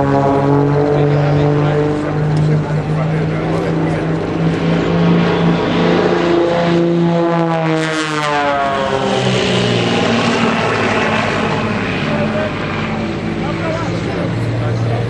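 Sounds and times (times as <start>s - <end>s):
propeller aircraft engines: 0.0s - 15.0s.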